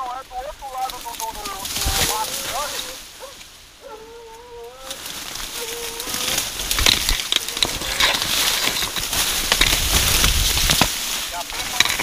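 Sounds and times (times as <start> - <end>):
dry leaves and stalks rustling: 0.0 - 12.0
stalks snapping: 0.8 - 3.5, 4.8 - 12.0.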